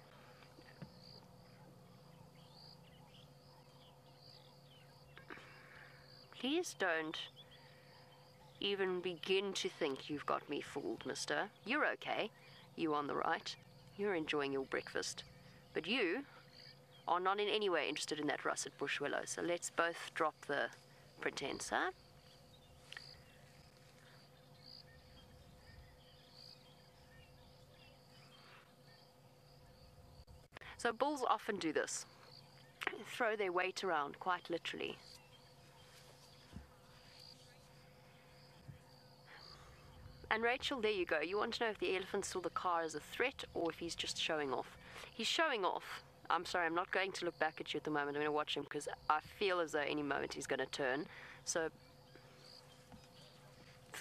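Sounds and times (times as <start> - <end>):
faint bird chirps: 0.0 - 43.2
high insect drone: 0.0 - 54.0
low steady hum: 0.0 - 54.0.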